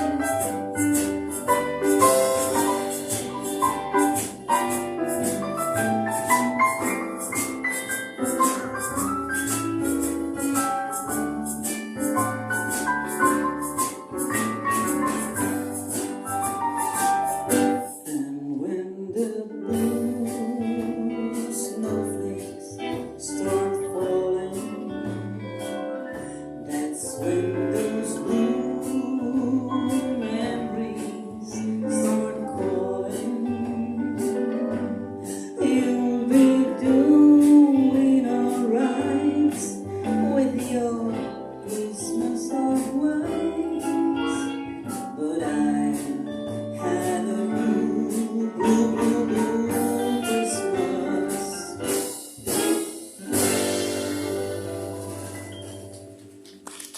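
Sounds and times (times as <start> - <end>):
person singing: 0.0 - 8.6, 16.8 - 25.6, 26.6 - 55.0
bass line: 0.0 - 17.8, 19.6 - 56.0
shaker beat: 0.0 - 18.4, 19.8 - 56.9.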